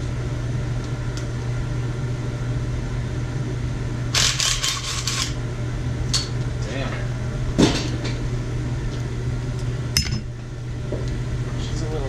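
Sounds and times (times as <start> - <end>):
shop fan humming: 0.0 - 12.0.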